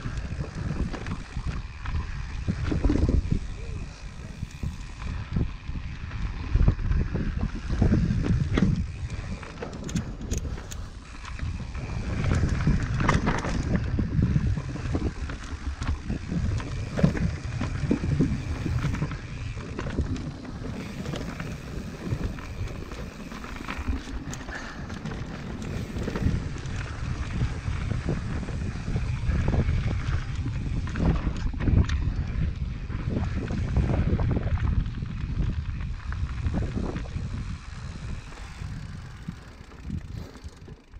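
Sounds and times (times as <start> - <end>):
bike clicks and rattles: 0.0 - 40.9
bike tyre rumble on dirt: 0.0 - 40.9
wind buffeting microphone: 0.0 - 40.9.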